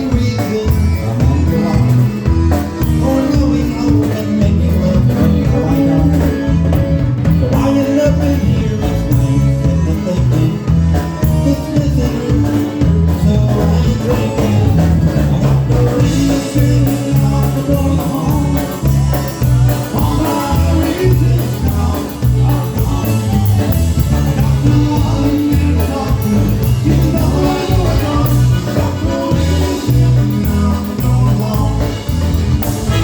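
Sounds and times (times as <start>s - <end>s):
polka band playing: 0.0s - 33.0s
steady bass beat: 0.1s - 33.0s.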